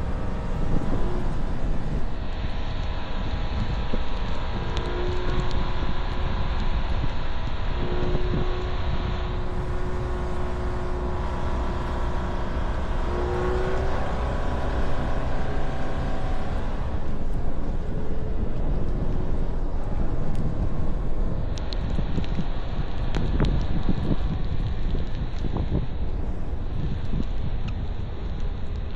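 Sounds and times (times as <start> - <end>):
car road and engine noise: 0.0 - 28.9.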